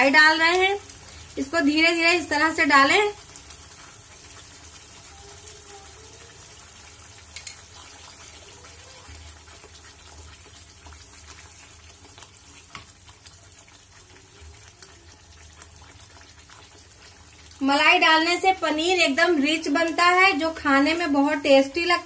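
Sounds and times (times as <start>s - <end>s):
gravy sizzling in a pan: 0.0s - 22.0s.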